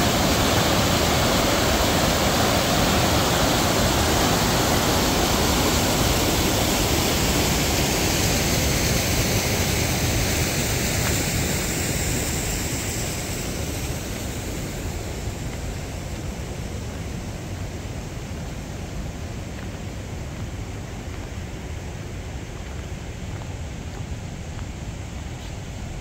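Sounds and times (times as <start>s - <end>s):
rushing stream water: 0.0s - 26.0s.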